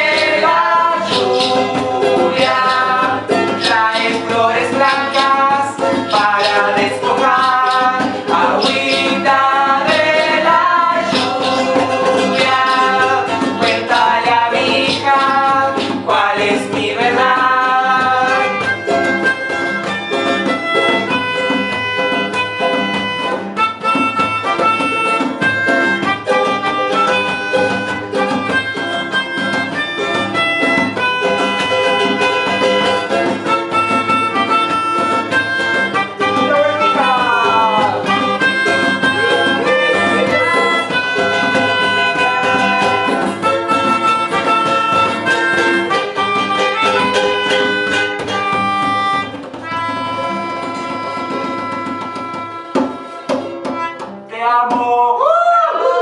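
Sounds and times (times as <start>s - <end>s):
band playing instrumental: 0.0s - 54.3s.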